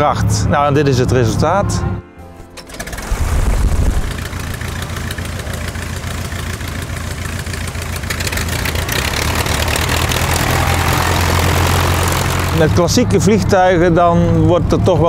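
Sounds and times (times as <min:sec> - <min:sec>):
biplane engine idling: 0:02.4 - 0:14.9.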